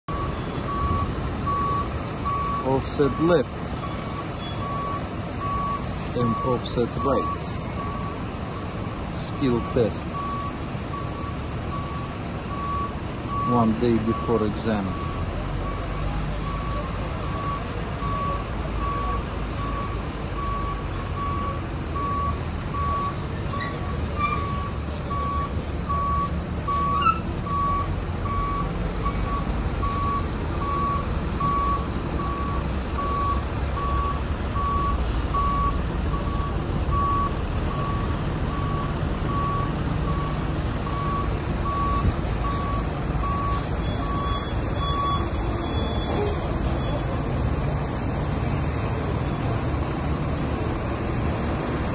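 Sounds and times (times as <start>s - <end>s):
truck reverse alarm beeping: 0.0s - 48.0s
truck engine rumble: 0.0s - 51.9s.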